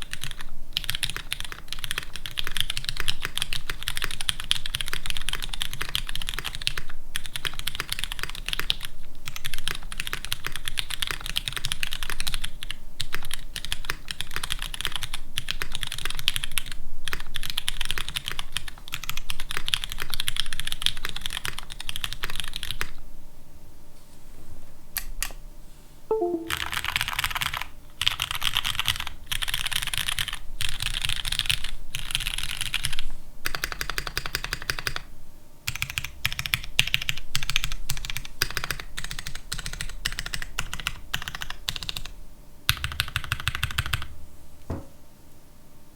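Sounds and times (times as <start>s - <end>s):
mechanical keyboard typing: 0.0s - 22.9s, 26.1s - 35.0s, 35.7s - 42.1s, 42.7s - 44.1s.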